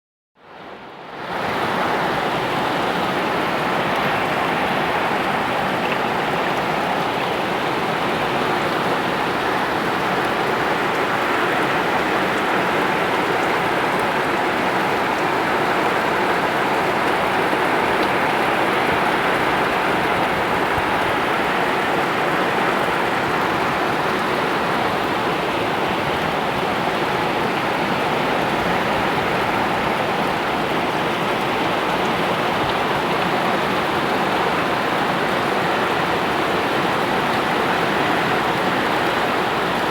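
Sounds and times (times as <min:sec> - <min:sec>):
heavy rain pattering: 0:01.4 - 0:39.9.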